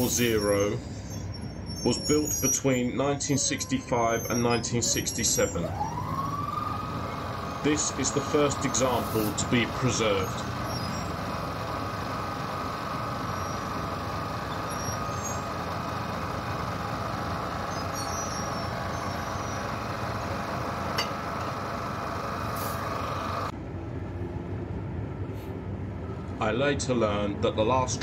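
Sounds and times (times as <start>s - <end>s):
locomotive diesel engine idling: 0.0s - 23.6s.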